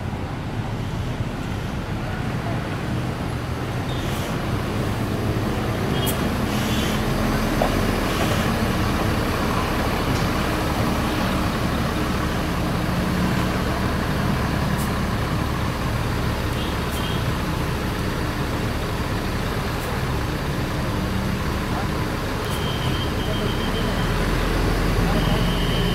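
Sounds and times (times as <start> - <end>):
coach diesel engine rumbling: 0.0 - 25.9.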